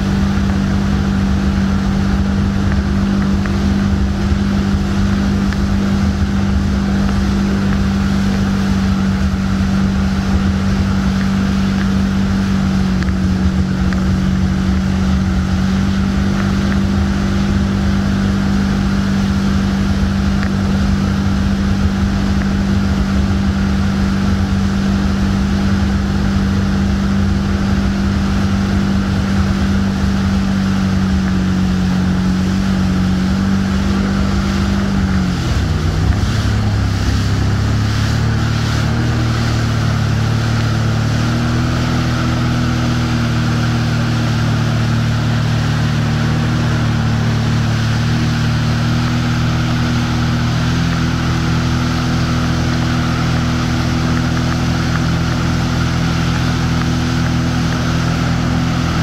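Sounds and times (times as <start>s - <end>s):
rushing boat wake: 0.0s - 59.0s
speedboat engine running: 0.0s - 59.0s.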